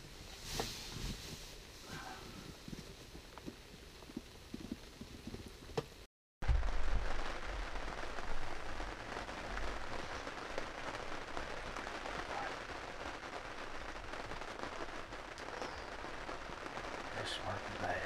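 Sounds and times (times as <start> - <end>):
light rain on fabric roof: 0.0 - 18.0.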